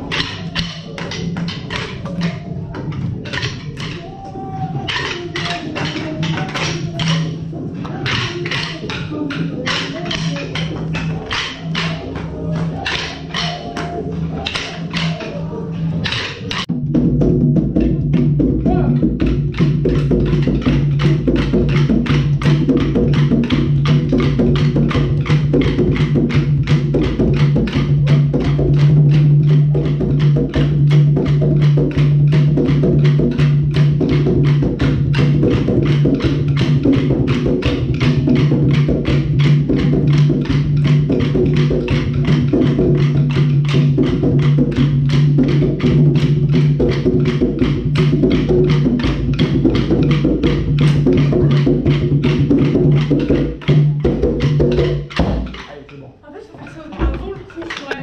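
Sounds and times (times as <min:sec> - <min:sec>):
wooden sticks clacking: 0:00.0 - 0:16.7, 0:19.2 - 0:58.0
hand drumming: 0:00.0 - 0:55.7, 0:56.7 - 0:58.0.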